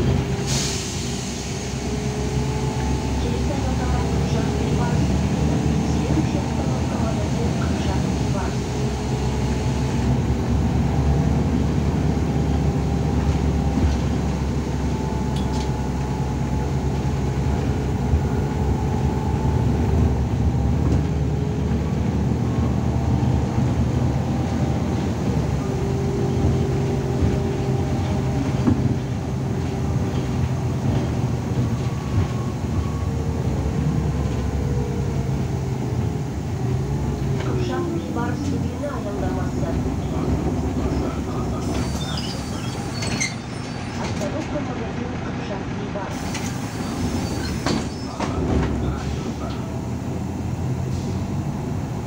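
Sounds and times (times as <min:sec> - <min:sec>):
bus engine and tyres rumbling: 0:00.0 - 0:52.0.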